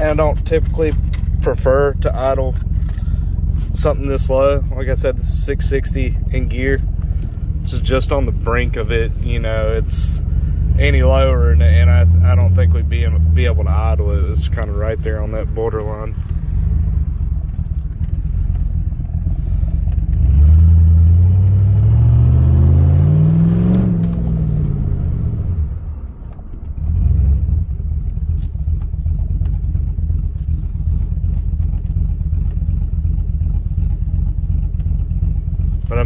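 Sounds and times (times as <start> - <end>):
engine revving and idling: 0.0 - 36.0.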